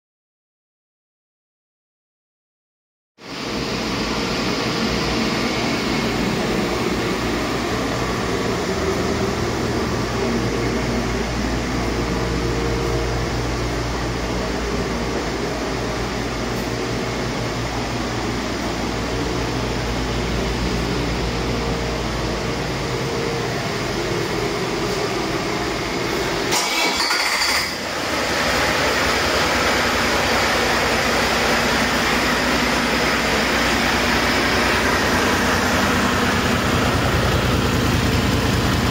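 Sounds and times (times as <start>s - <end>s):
diesel engine running steadily: 3.2s - 38.9s.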